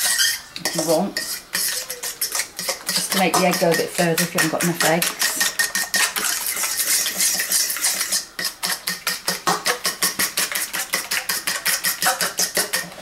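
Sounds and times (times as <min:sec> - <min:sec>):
whisk clinking against bowl: 0:00.0 - 0:13.0.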